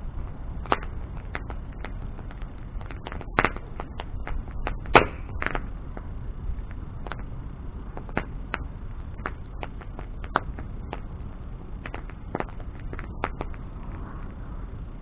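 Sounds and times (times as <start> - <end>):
bonfire crackling and popping: 0.0 - 15.0
low steady rumble: 0.0 - 15.0.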